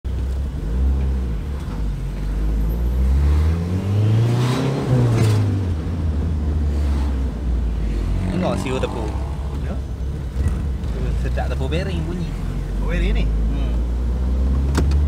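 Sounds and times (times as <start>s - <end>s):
car engine from inside cabin: 0.1s - 15.0s.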